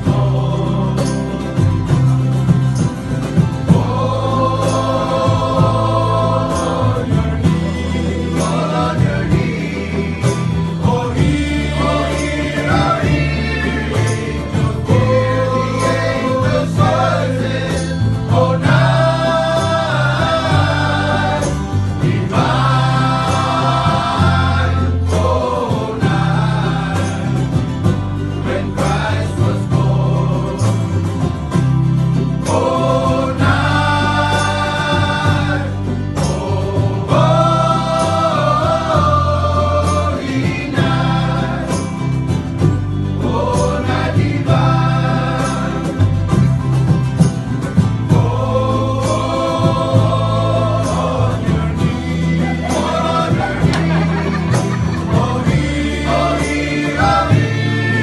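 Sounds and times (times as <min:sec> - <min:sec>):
group of men singing: 0:00.0 - 0:58.0
strummed ukuleles and guitars: 0:00.0 - 0:58.0.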